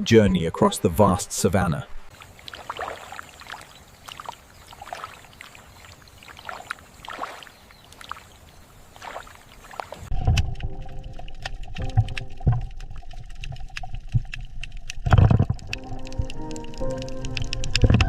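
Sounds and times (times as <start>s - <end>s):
water splashing: 0.8s - 18.0s.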